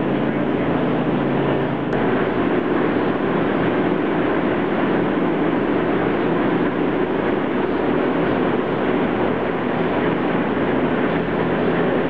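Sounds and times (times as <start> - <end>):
low hum: 0.0 - 12.0
steady mechanical drone: 0.0 - 12.0.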